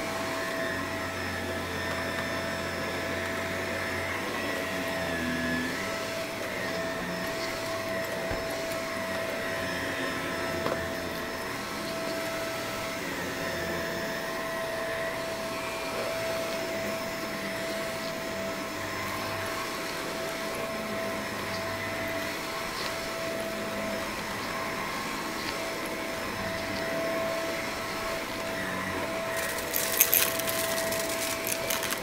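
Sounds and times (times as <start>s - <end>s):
upright vacuum running: 0.0s - 32.0s.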